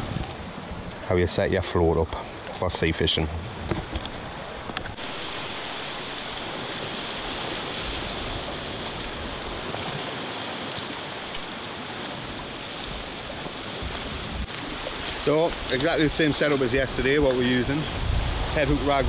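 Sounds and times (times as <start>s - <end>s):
surf washing on rocky shore: 0.0s - 19.0s.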